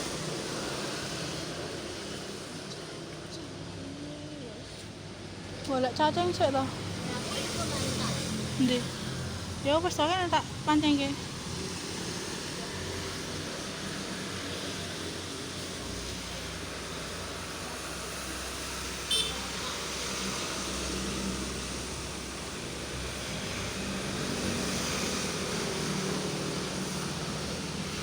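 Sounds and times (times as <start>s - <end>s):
passing vehicles rumbling: 0.0s - 28.0s.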